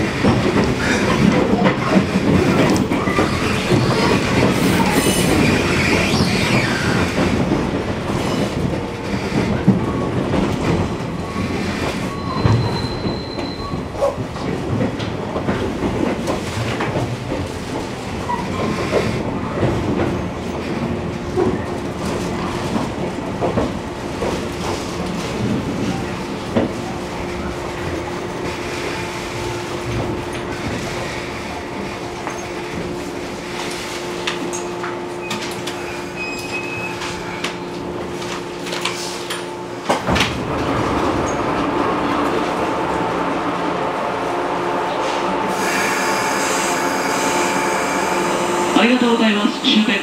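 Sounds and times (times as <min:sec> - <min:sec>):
train cabin rumble: 0:00.0 - 0:50.0.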